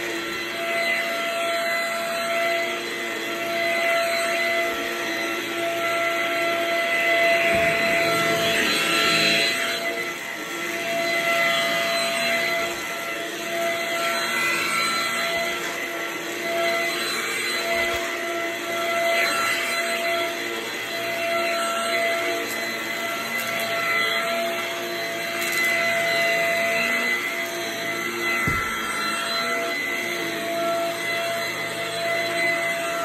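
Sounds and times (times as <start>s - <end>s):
vacuum cleaner on carpet: 0.0s - 33.0s.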